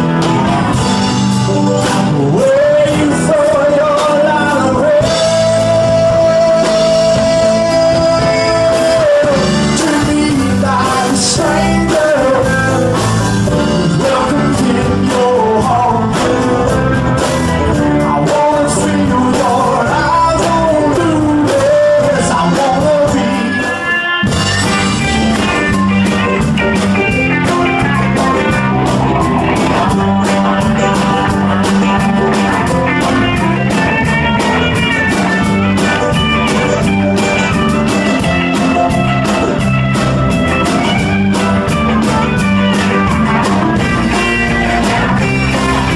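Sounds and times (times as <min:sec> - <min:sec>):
live country band: 0:00.0 - 0:45.9.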